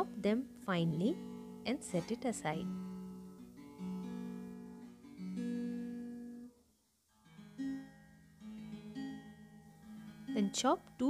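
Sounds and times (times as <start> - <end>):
acoustic guitar plucked notes: 0.0 - 11.0.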